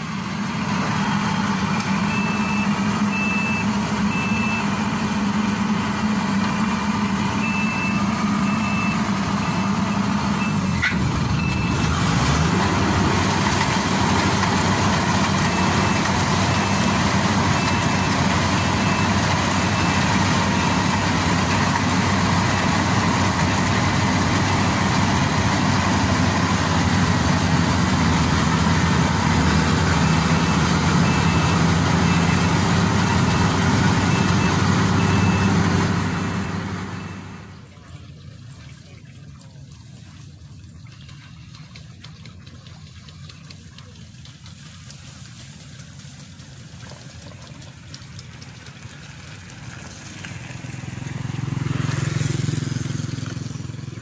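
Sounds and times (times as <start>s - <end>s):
diesel engine running: 0.0s - 37.8s, 43.5s - 54.0s.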